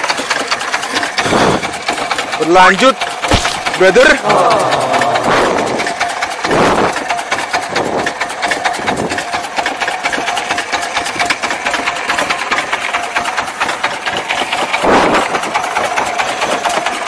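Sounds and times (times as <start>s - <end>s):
boat engine knocking: 0.0s - 17.0s.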